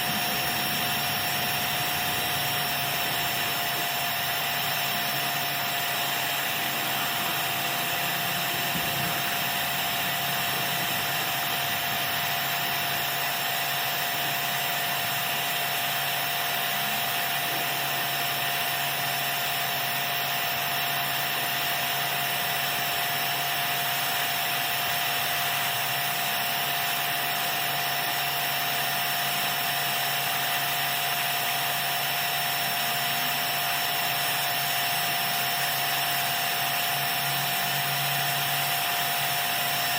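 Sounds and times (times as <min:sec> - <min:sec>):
pressure washer motor whine: 0:00.0 - 0:39.9.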